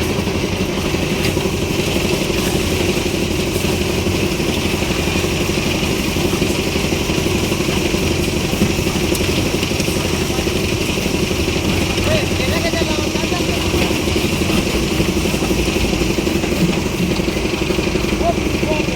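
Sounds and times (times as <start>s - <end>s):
concrete mixer engine running: 0.0s - 18.9s.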